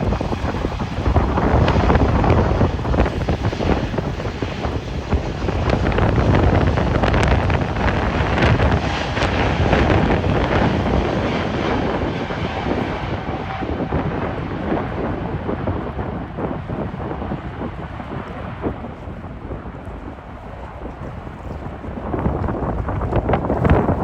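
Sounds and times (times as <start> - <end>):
jet engines rumbling: 0.0 - 24.0
wind buffeting microphone: 0.0 - 24.0.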